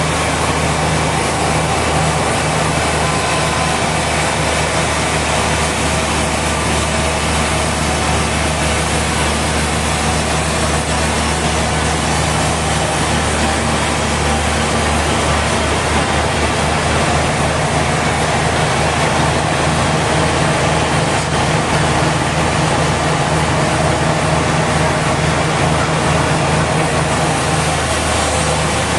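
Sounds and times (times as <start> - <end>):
sawmill machinery hum: 0.0 - 28.9.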